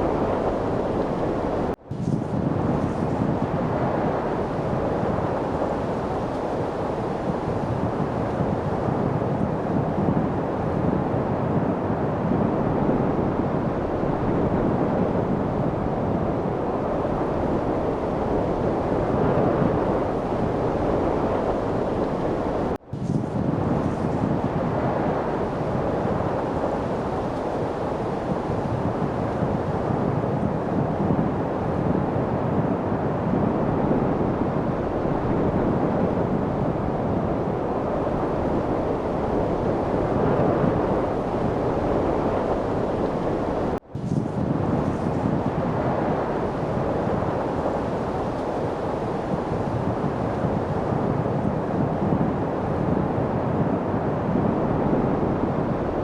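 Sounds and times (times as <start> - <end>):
steady wind: 0.0 - 56.0.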